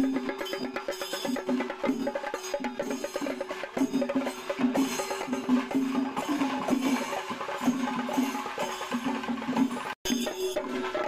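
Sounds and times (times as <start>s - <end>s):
percussion over held notes: 0.0s - 11.0s.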